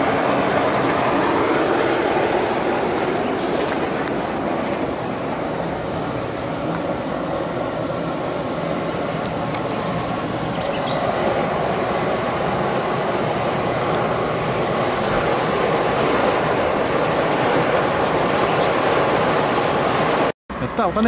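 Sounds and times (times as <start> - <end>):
steam rushing hiss: 0.0 - 20.3.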